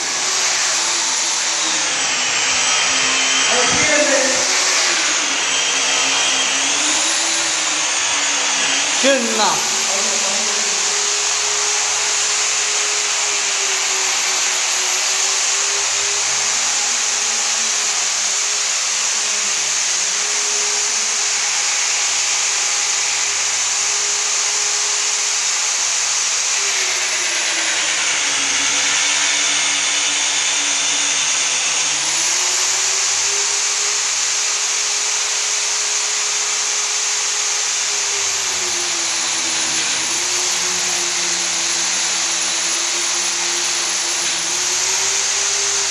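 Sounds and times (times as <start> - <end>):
electric polisher motor whine: 0.0 - 45.9.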